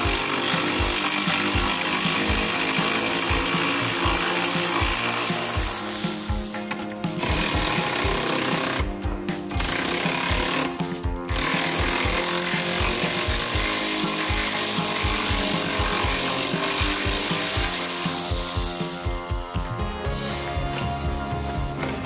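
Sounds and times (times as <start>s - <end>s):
electric ratchet running: 0.0s - 19.6s
background music with beat: 0.0s - 22.0s.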